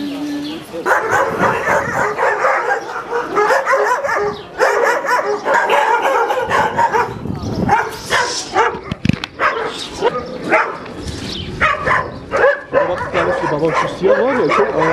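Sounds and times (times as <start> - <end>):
many dogs barking: 0.7 - 14.9.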